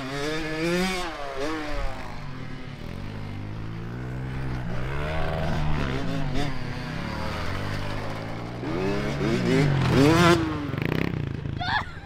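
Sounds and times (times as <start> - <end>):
motocross bike engine revving: 0.0 - 11.6.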